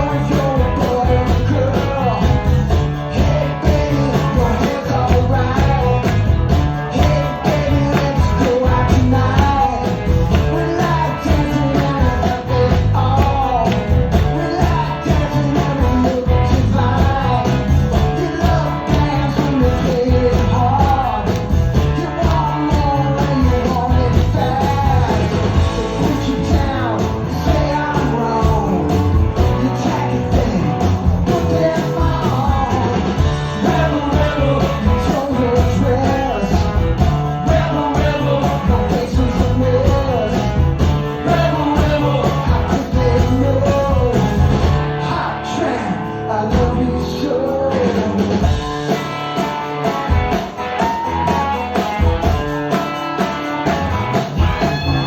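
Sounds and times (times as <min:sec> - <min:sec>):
person singing: 0:00.0 - 0:49.0
bass guitar: 0:00.0 - 0:55.0
drums: 0:00.0 - 0:55.0
electric guitar: 0:00.0 - 0:55.0.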